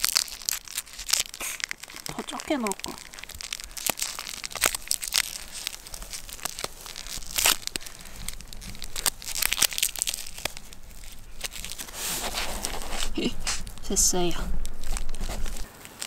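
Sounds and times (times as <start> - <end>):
plastic packet crinkling: 0.0 - 16.0.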